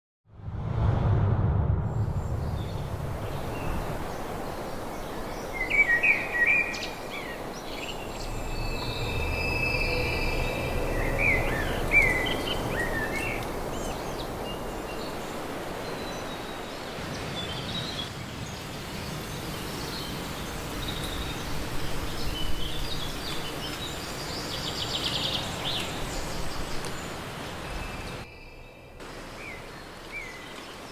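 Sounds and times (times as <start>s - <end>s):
songbirds chirping: 2.2s - 30.9s.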